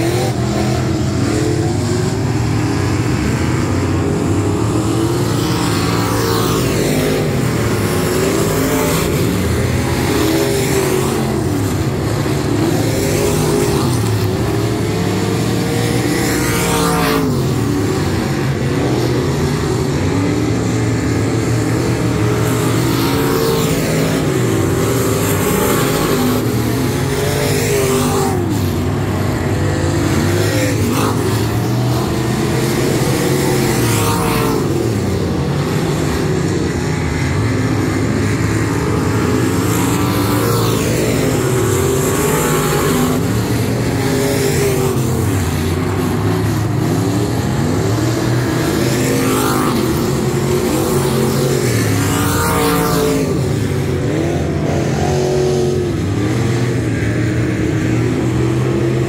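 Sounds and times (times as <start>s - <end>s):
race car engines accelerating and passing: 0.0s - 59.0s.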